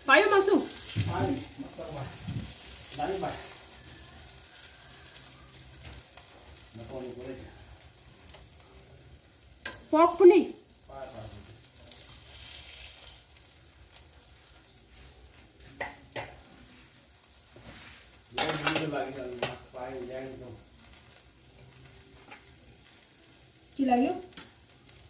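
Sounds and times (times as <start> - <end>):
oil sizzling on a hot griddle: 0.0 - 25.0.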